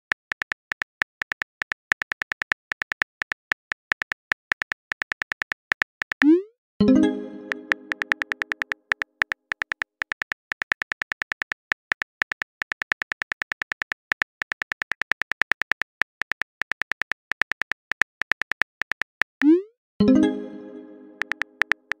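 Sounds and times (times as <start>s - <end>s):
keyboard typing clicks: 0.0s - 19.6s, 20.8s - 22.0s.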